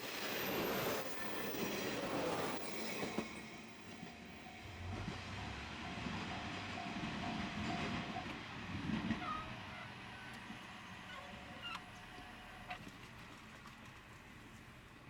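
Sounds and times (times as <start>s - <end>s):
train wheels rumbling on track: 0.0s - 12.9s.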